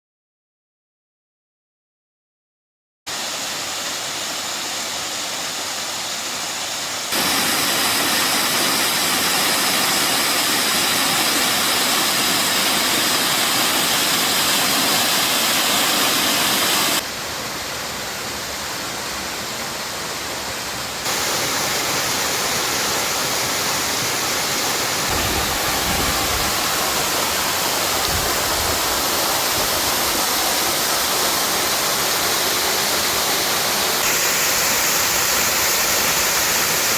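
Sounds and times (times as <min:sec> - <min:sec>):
waterfall rushing: 0:03.1 - 0:36.9.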